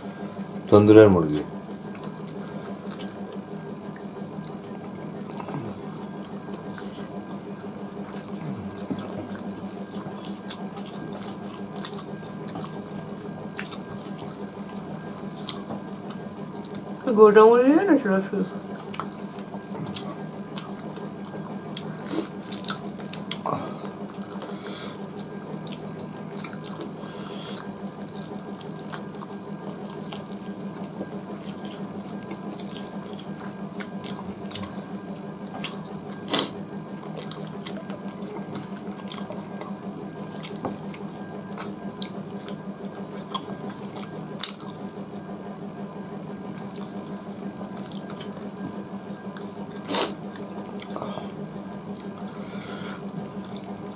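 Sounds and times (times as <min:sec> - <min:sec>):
steady low hum: 0:00.0 - 0:53.9
wet chewing: 0:01.7 - 0:17.0, 0:18.4 - 0:53.9.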